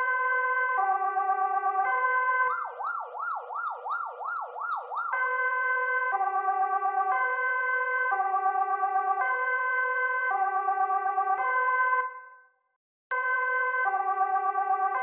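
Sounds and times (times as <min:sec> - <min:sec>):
police siren two-tone and yelp: 0:00.0 - 0:15.0.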